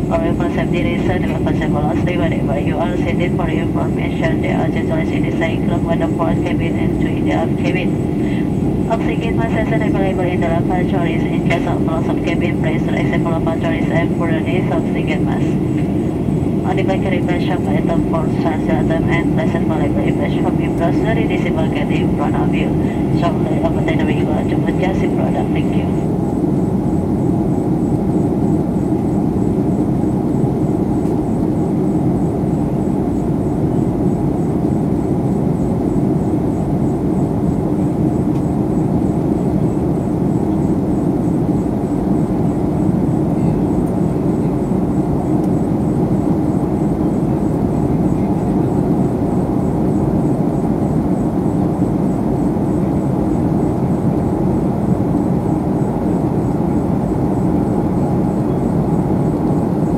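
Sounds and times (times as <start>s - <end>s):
jet cabin engine rush: 0.0s - 59.9s.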